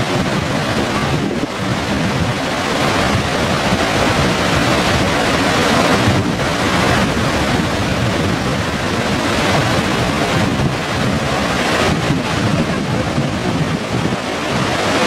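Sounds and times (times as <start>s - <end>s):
whitewater rapids rushing over boulders: 0.0s - 15.0s.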